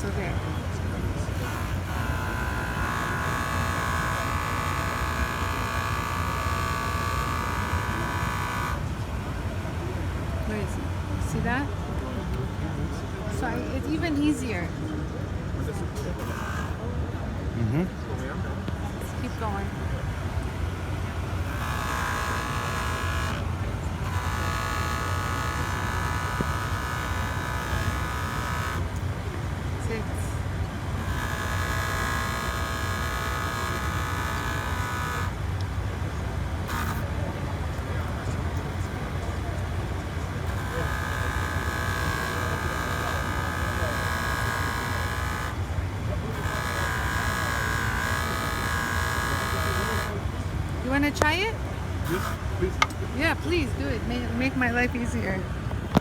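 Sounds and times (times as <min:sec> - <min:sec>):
polishing machine motor whine: 0:00.0 - 0:56.0.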